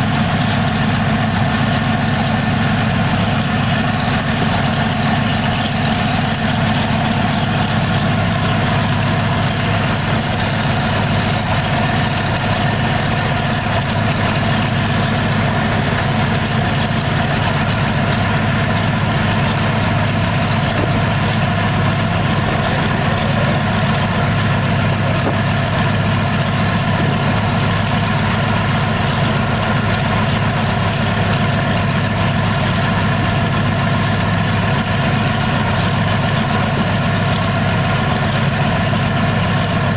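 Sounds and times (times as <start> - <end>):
radial aero engine running: 0.0 - 39.9.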